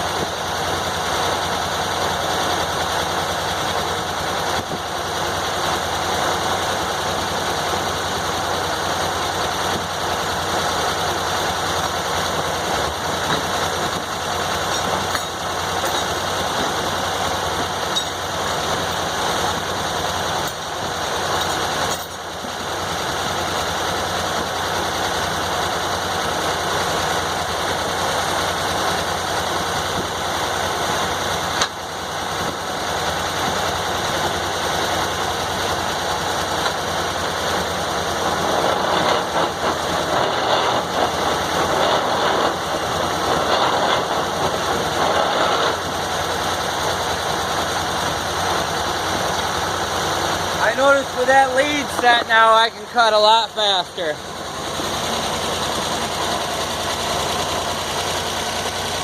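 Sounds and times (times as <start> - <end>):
engine-driven sawmill running: 0.0 - 59.0.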